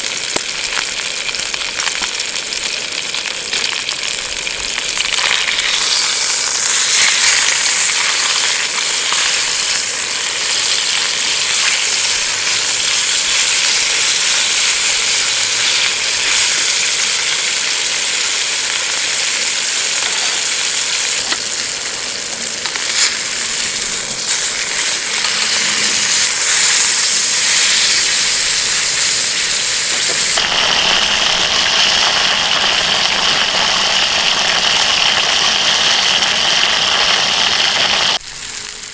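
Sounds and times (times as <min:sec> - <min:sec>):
beef sizzling in frying pan: 0:00.0 - 0:38.9.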